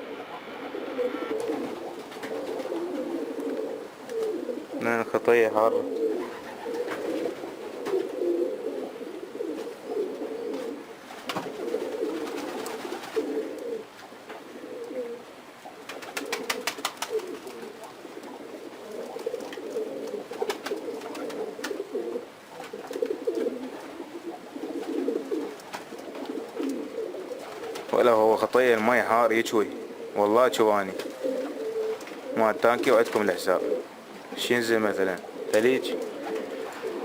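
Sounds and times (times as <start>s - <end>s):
pigeons cooing: 0.0s - 37.0s.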